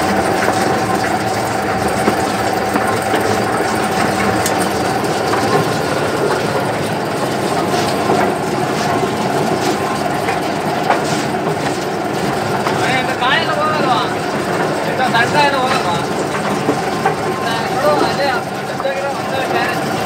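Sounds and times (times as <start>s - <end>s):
de-husker machine running: 0.0s - 20.0s.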